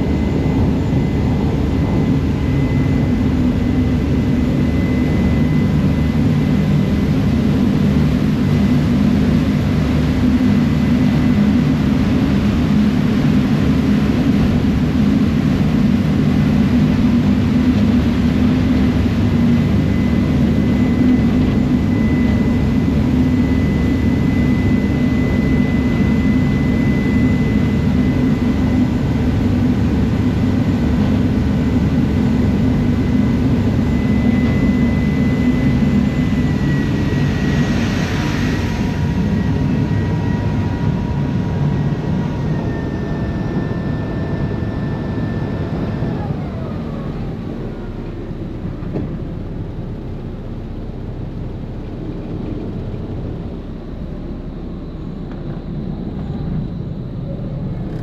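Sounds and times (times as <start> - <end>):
ferry engines droning: 0.0 - 58.0.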